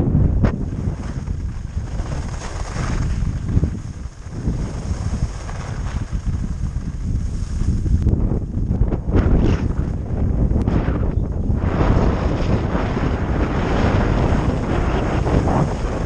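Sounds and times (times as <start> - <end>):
wind buffeting microphone: 0.0 - 16.0
skis carving on snow: 0.5 - 10.0, 11.6 - 16.0.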